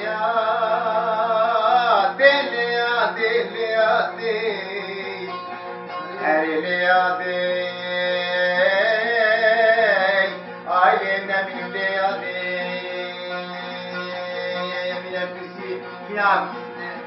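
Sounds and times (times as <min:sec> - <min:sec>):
man singing: 0:00.0 - 0:17.0
plucked lute strings: 0:00.0 - 0:17.0.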